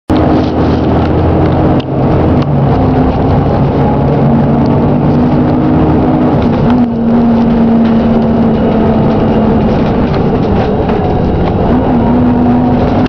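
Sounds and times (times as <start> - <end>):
diesel bus engine knocking: 0.1 - 13.0.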